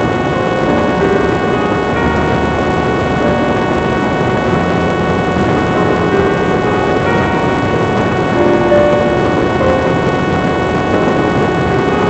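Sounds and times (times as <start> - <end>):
electric motor and propeller whine: 0.0 - 12.0
rush of wind: 0.0 - 12.0.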